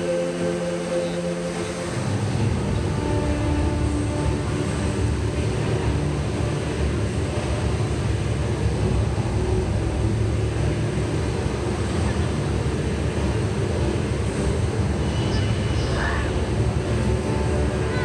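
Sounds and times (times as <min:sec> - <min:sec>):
indoor waterfall rushing: 0:00.0 - 0:18.0.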